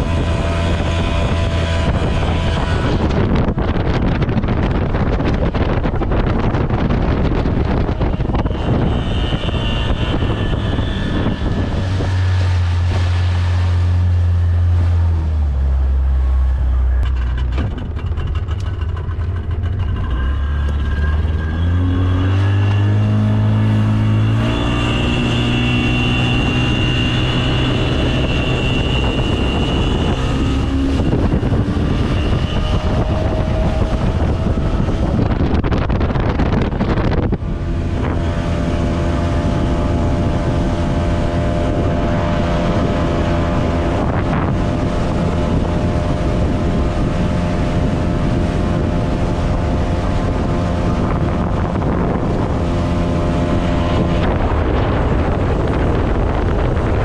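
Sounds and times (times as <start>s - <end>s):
noisy rush of water: 0.0s - 57.0s
speedboat engine running hard: 0.0s - 57.0s.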